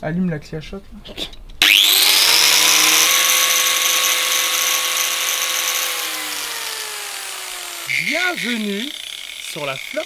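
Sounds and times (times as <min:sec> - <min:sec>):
angle grinder whining: 0:01.6 - 0:10.0.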